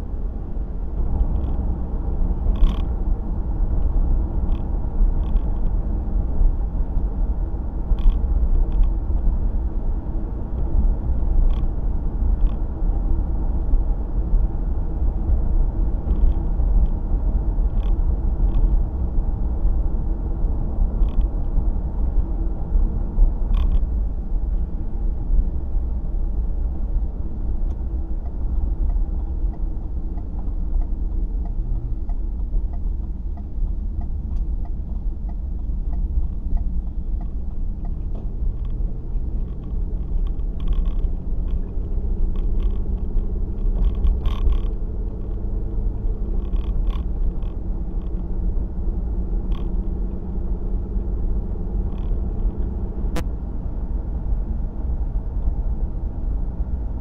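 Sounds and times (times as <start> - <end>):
car driving road noise: 0.0 - 57.0.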